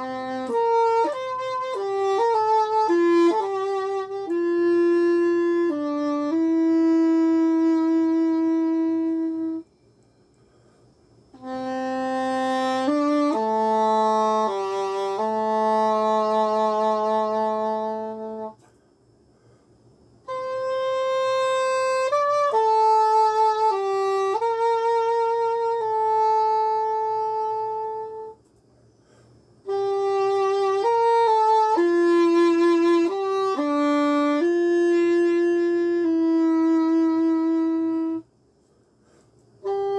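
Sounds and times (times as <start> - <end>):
english horn solo melody: 0.0 - 9.7, 11.3 - 18.7, 20.2 - 28.5, 29.6 - 38.3, 39.6 - 39.9.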